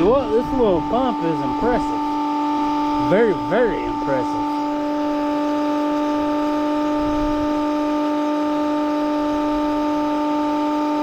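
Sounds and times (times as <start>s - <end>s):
pump motor whining: 0.0s - 11.0s.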